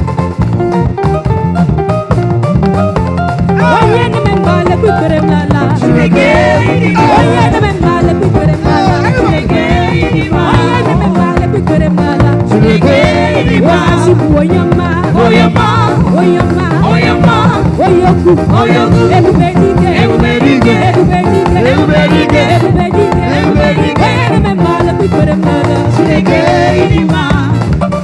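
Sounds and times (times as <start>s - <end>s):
live band playing: 0.0s - 28.0s
person singing: 3.5s - 27.6s.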